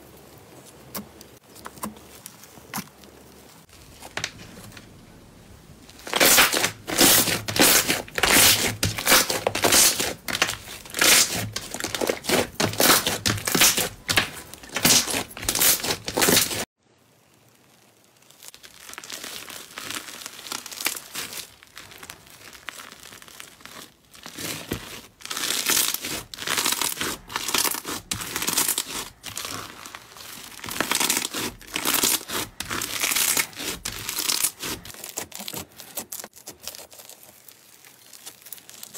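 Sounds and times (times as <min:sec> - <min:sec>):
slime stretched and squished: 0:05.8 - 0:38.9.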